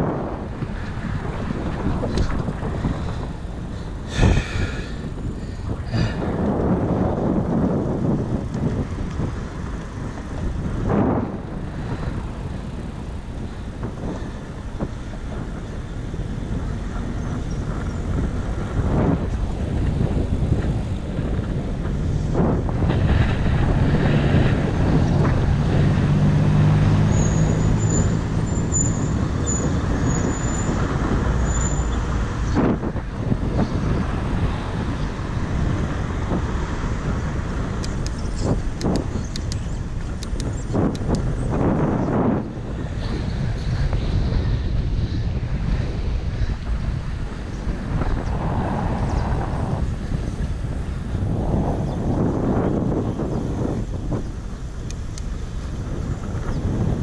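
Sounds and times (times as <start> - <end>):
heavy vehicle engine droning: 0.0 - 57.0
road traffic passing: 0.0 - 57.0.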